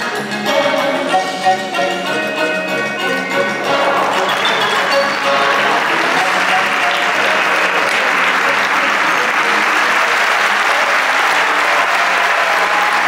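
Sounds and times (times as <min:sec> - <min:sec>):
audience applauding: 0:02.3 - 0:13.0.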